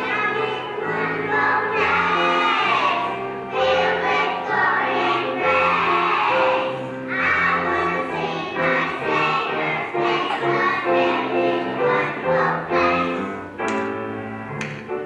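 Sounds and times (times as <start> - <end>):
children's choir singing: 0.0 - 13.7
instrumental accompaniment: 0.0 - 15.0.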